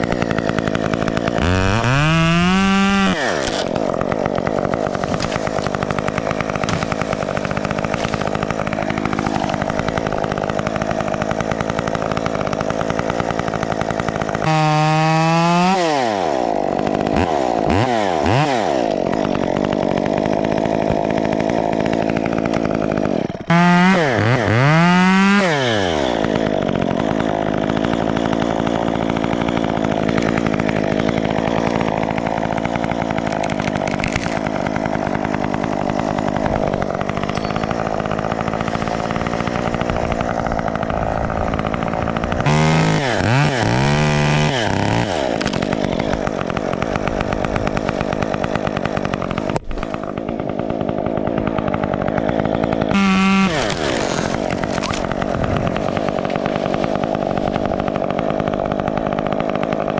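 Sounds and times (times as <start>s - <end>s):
chainsaw cutting tree limb: 0.0s - 59.9s.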